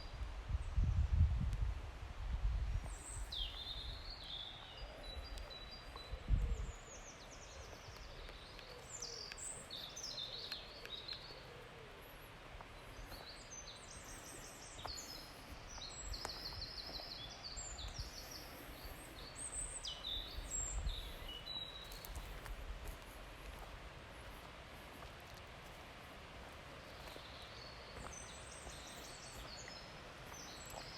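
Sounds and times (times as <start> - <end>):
songbirds singing: 2.7 - 30.9.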